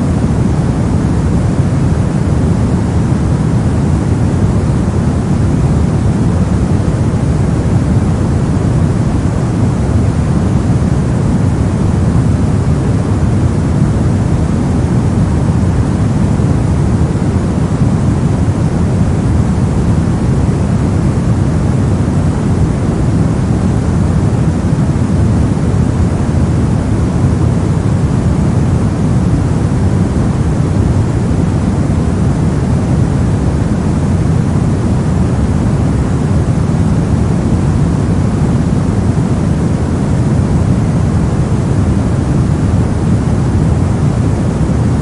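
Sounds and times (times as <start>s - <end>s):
brown noise rumble: 0.0s - 45.0s.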